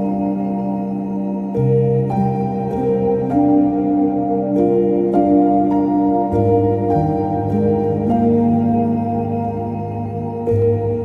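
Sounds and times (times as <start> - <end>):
calm new-age music: 0.0 - 11.0.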